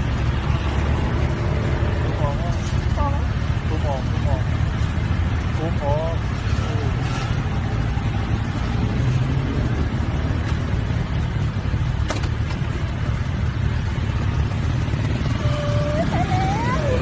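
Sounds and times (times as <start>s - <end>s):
motorcycle engines rumbling: 0.0s - 17.0s
road and wind noise: 0.0s - 17.0s.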